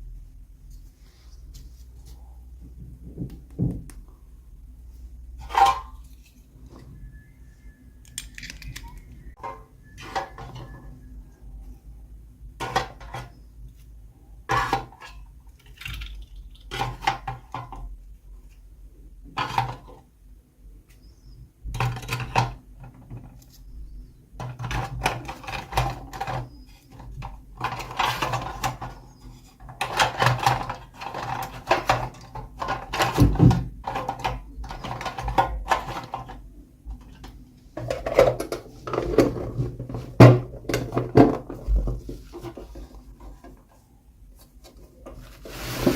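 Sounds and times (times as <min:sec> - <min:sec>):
plastic toys and packaging handled: 0:04.8 - 0:20.1, 0:20.8 - 0:45.9.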